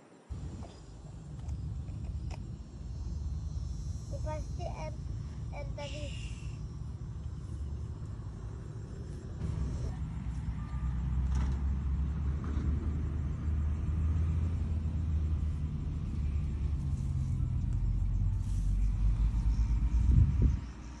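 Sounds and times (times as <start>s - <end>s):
airplane passing overhead: 0.1s - 21.0s.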